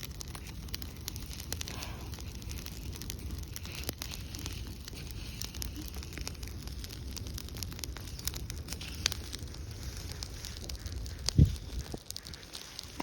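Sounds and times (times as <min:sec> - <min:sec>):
dry leaves burning crackling: 0:00.0 - 0:13.0
low fire rumble: 0:00.0 - 0:13.0.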